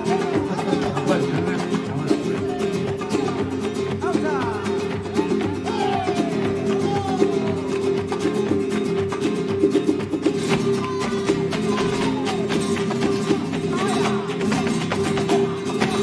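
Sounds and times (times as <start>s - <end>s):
flamenco guitar music: 0.0s - 16.0s.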